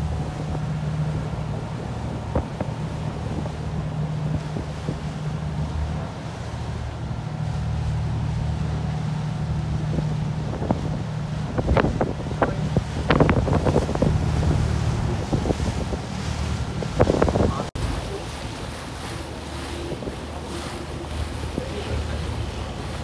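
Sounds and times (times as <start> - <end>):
boat engine droning: 0.0 - 23.0
wind buffeting microphone: 0.0 - 23.0.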